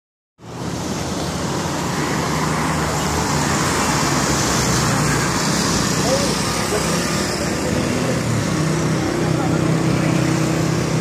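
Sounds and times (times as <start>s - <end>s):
road traffic: 0.4s - 11.0s.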